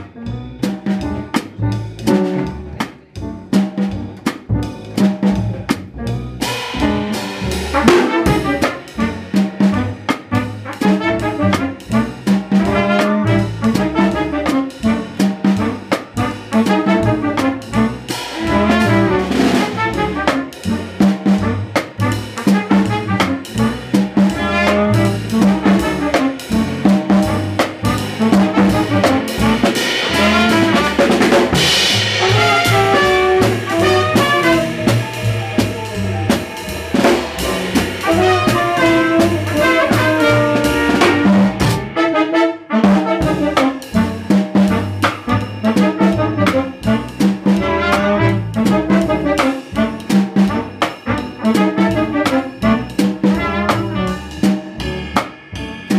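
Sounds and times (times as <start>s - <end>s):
double bass: 0.0s - 55.9s
drum kit and cymbals: 0.0s - 55.9s
jazz horn lines: 0.0s - 55.9s.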